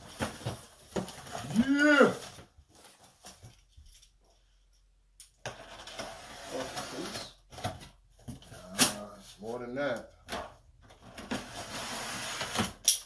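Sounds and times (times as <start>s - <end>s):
cardboard and packing rustling: 0.0s - 4.4s, 5.5s - 9.5s, 10.2s - 12.9s.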